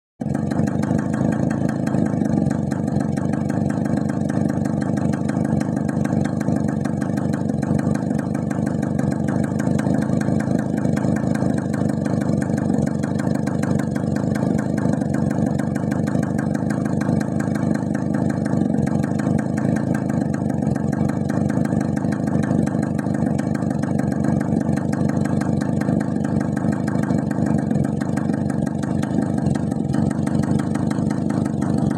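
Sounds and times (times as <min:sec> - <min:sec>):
two-stroke engine idling: 0:00.2 - 0:31.9.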